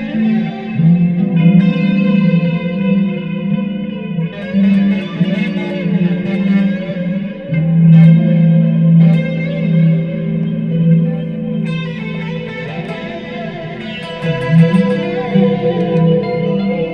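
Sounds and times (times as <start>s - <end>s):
electric guitar ringing notes: 0.0s - 16.9s.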